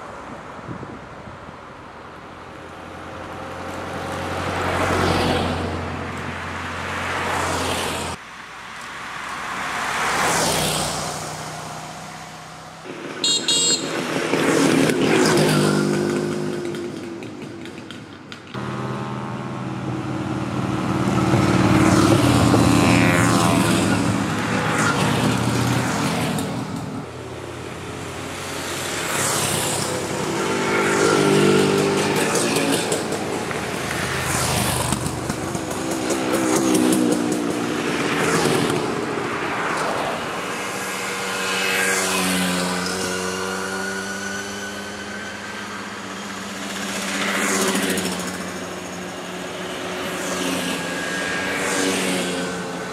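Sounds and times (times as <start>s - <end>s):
motorcycles passing by: 2.9s - 8.2s, 9.1s - 52.9s.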